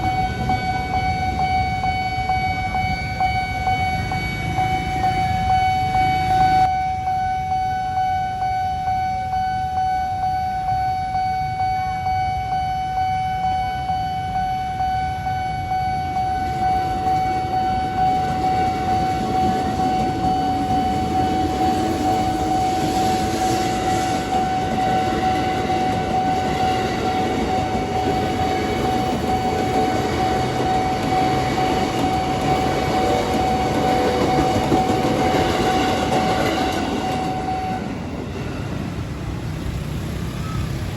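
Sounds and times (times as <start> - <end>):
level-crossing alarm tone: 0.0 - 38.8
train rumbling: 0.0 - 40.9.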